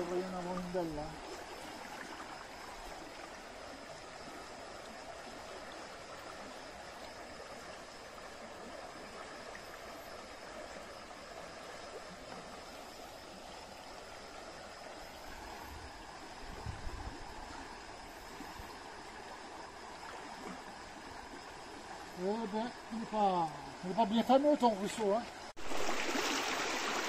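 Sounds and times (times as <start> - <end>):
stream running over stones: 0.0 - 27.0.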